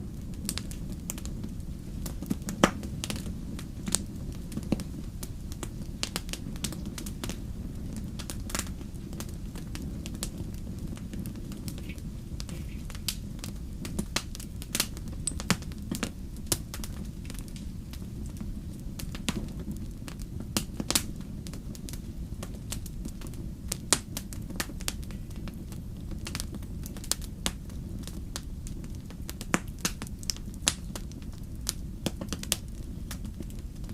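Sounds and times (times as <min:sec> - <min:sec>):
campfire crackling: 0:00.0 - 0:33.9.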